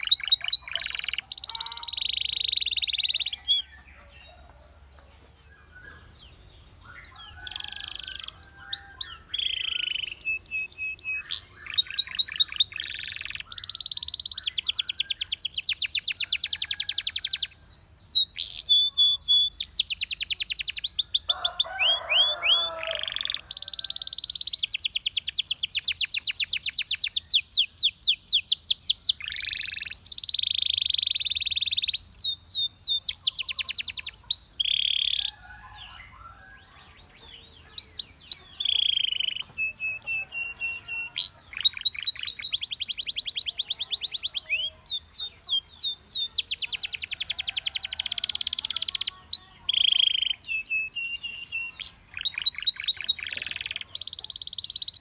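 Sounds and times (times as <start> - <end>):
canary singing trills: 0.0 - 4.7, 5.4 - 55.0.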